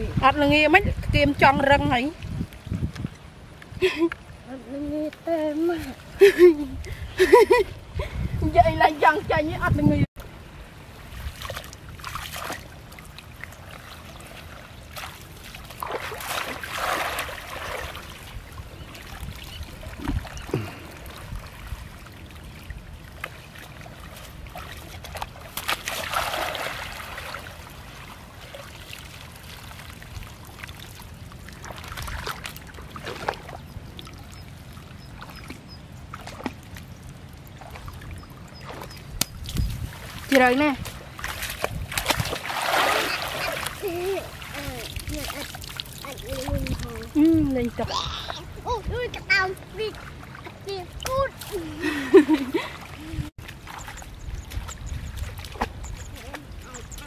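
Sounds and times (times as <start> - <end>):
water splashing: 8.5 - 57.0
water trickling and pouring: 11.0 - 57.0.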